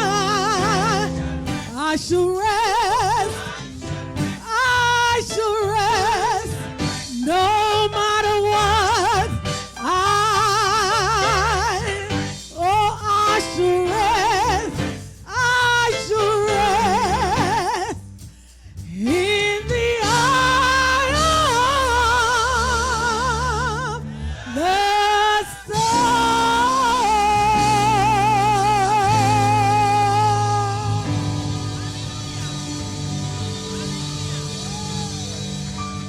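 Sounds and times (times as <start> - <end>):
solo voice singing with vibrato: 0.0 - 3.7, 4.3 - 18.0, 19.0 - 31.2
sustained instrumental backing with bass: 0.0 - 36.0.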